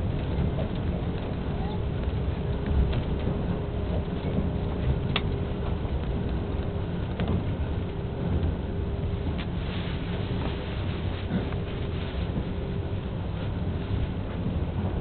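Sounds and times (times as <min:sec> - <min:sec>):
faint hum: 0:00.0 - 0:15.0
train cabin rumble: 0:00.0 - 0:15.0.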